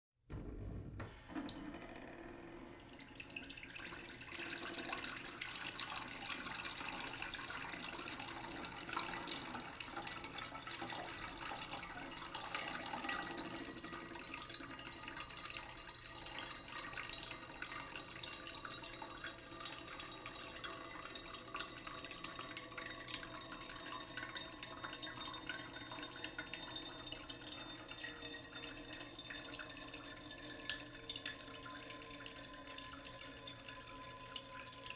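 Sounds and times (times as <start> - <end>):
tap water filling a pot: 2.8 - 34.9.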